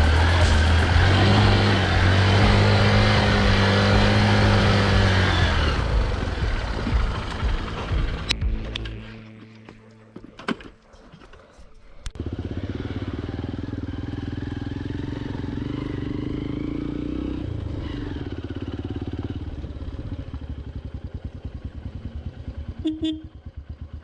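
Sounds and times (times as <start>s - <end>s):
motorcycle engine running: 0.0s - 9.3s, 12.2s - 24.0s.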